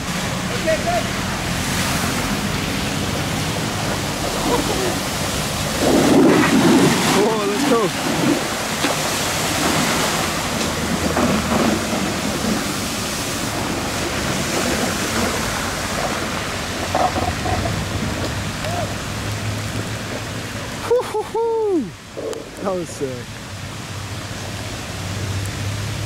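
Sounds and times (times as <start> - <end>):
rain falling: 0.0 - 26.0
water spraying and rushing: 0.0 - 26.0.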